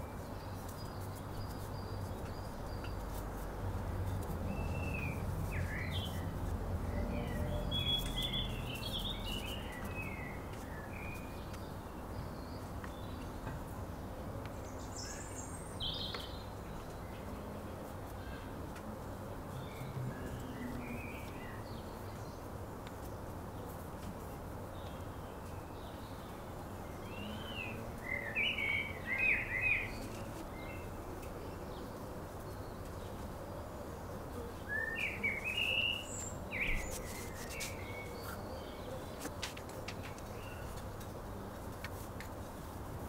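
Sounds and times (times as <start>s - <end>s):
small birds chirping: 0.0s - 43.0s
steady low hiss: 0.0s - 43.0s.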